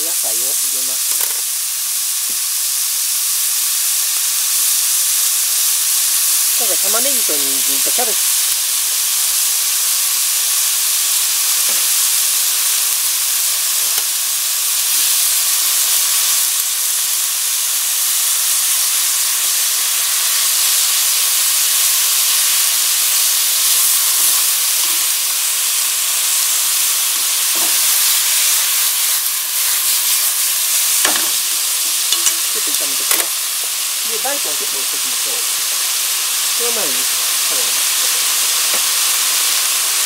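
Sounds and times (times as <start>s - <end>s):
food sizzling in a frying pan: 0.0s - 40.0s.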